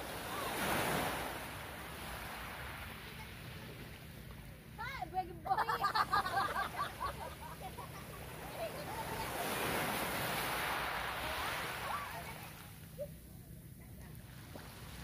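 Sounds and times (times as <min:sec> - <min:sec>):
small waves washing onto beach: 0:00.0 - 0:04.8, 0:06.3 - 0:13.1, 0:14.0 - 0:15.0.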